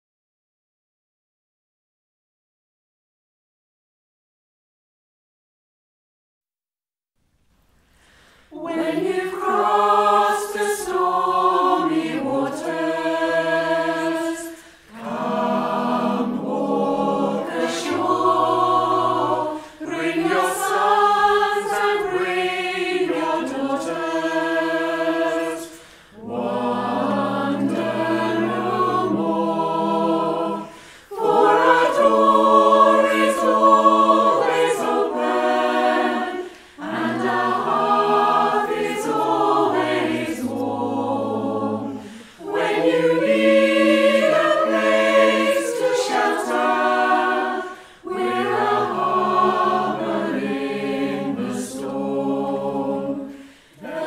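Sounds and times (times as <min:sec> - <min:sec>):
choir singing in harmony: 0:08.5 - 0:54.0.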